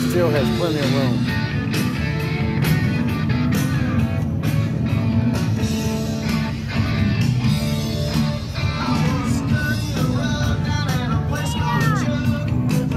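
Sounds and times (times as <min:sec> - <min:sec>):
guitar music over a beat: 0:00.0 - 0:12.9.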